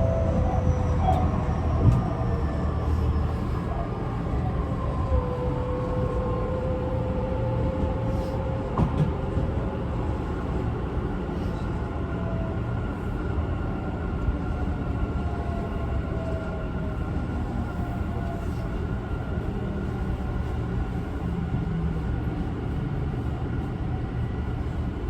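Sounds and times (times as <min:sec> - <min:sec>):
electric train running rumble: 0:00.0 - 0:25.0.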